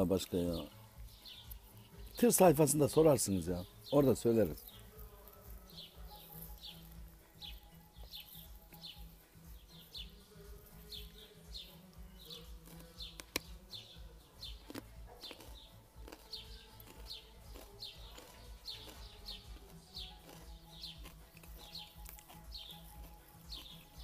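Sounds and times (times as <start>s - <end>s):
small bird chirping: 0.6s - 3.0s, 5.6s - 24.0s.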